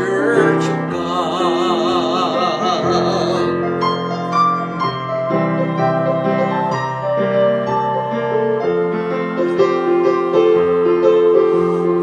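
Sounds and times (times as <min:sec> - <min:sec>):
slow piano hymn: 0:00.0 - 0:12.0.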